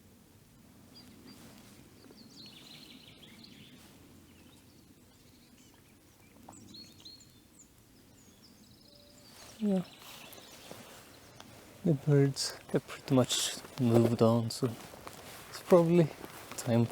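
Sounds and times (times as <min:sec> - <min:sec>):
high bird calls and chirps: 0:00.9 - 0:16.9.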